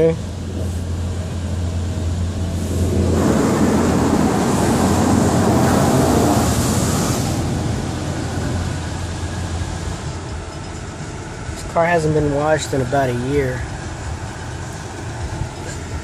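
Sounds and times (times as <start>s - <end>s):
steady low hum: 0.0s - 16.0s
water jets spraying on car: 0.0s - 16.0s.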